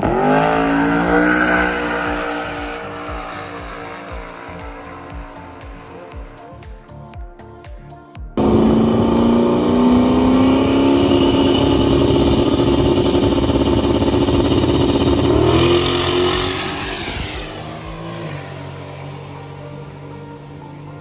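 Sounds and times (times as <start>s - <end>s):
race car engine at full throttle: 0.0s - 6.4s, 8.4s - 21.0s.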